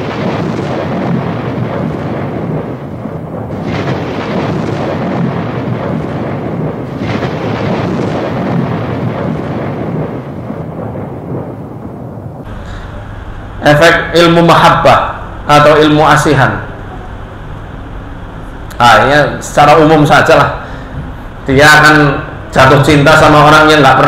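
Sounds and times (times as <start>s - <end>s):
deep thunder-like rumbling: 0.0s - 24.0s.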